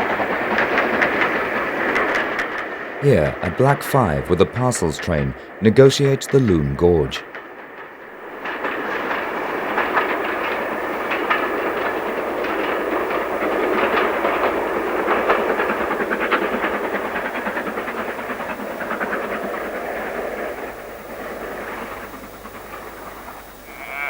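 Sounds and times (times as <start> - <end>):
wheels clicking over rail joints: 0.0 - 3.0, 7.3 - 23.9
steam train rumbling past: 0.0 - 24.0.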